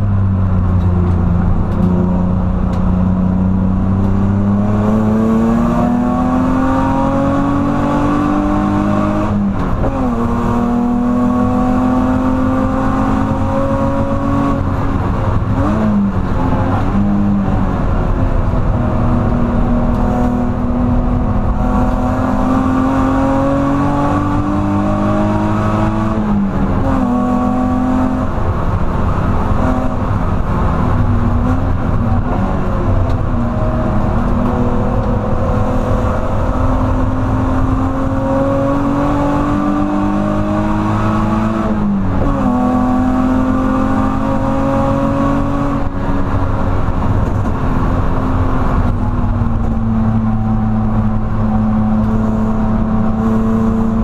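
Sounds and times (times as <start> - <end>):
car engine accelerating: 0.0 - 54.0
tyre and road noise: 0.0 - 54.0.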